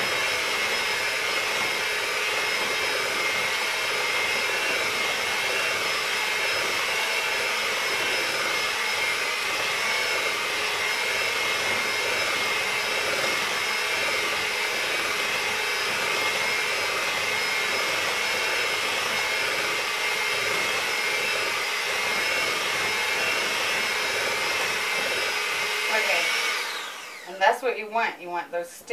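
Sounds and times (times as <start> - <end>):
electric hand mixer whining: 0.0 - 27.6.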